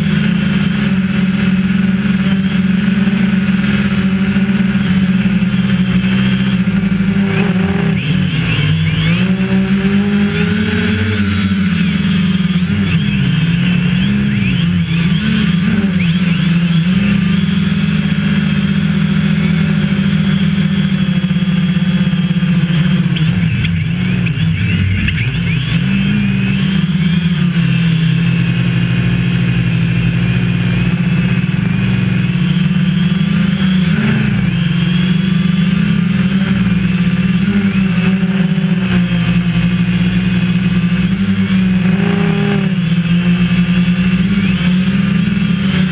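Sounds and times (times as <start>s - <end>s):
drone propellers buzzing: 0.0s - 45.9s.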